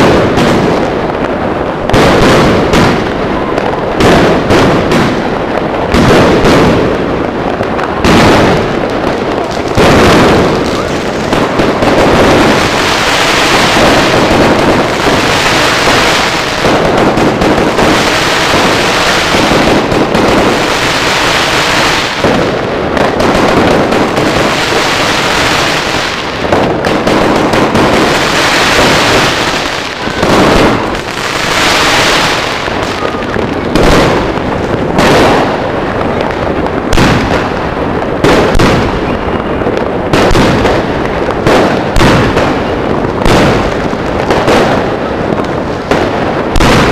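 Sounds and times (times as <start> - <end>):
fireworks crackling and banging: 0.0 - 46.9.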